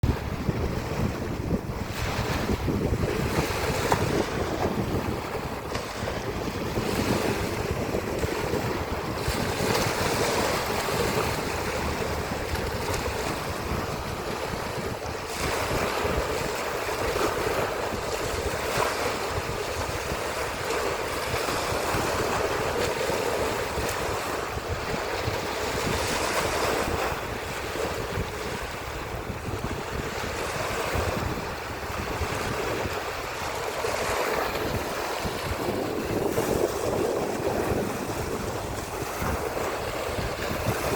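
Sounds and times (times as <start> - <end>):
sea waves washing in: 0.0 - 40.9
wind buffeting microphone: 0.0 - 40.9.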